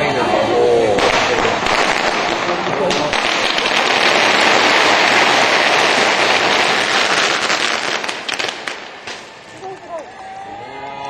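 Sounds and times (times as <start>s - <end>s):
pyrotechnic crackling hiss: 0.5s - 10.5s.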